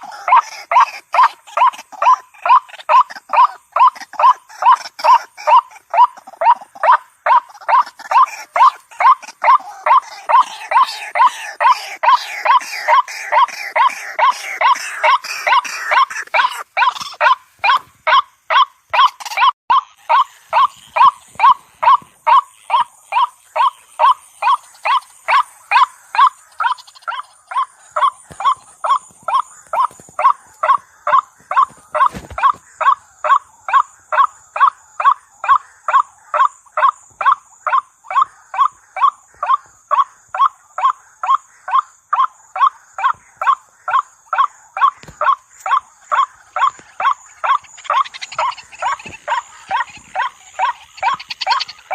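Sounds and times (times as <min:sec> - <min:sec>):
harsh repeated bird call: 0:00.0 - 0:51.9.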